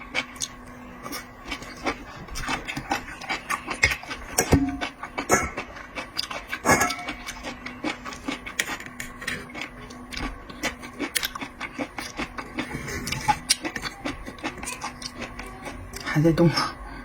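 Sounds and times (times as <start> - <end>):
eating seafood clicks and crackles: 0.0 - 16.8.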